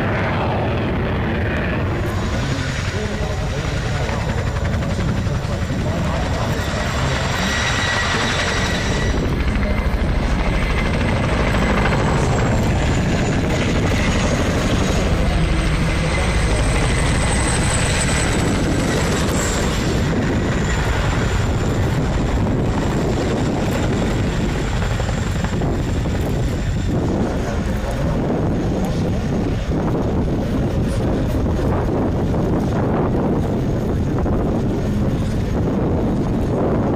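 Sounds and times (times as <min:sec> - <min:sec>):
helicopter rotor chop: 0:00.0 - 0:36.9
high turbine whine: 0:00.0 - 0:36.9.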